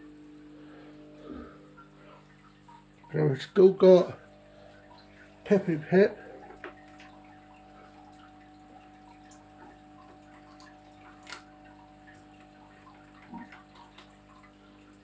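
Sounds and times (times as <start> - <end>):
aquarium pump hum: 0.0 - 15.0
water trickling: 0.0 - 15.0.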